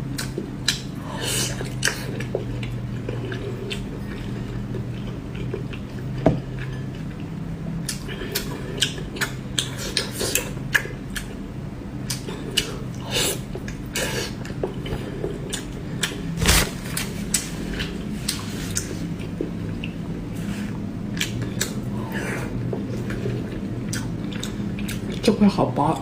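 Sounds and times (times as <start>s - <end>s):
steady low hum: 0.0s - 26.0s
faint chewing: 0.1s - 11.4s, 12.0s - 25.3s.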